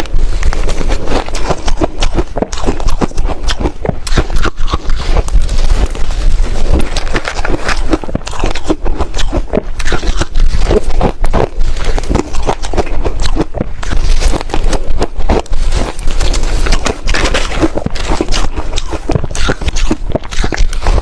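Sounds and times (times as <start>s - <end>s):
person chewing ice: 0.0s - 21.0s.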